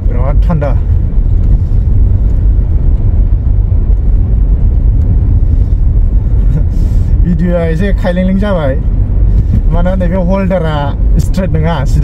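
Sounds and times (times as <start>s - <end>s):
car engine: 0.0s - 12.0s
tyre road noise: 0.0s - 12.0s.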